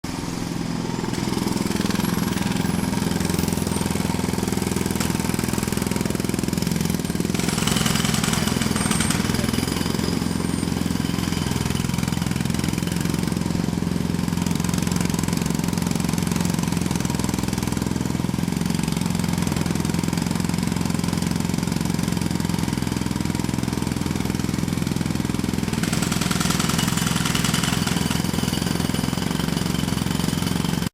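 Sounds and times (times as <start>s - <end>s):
jackhammer hammering: 0.0s - 30.9s.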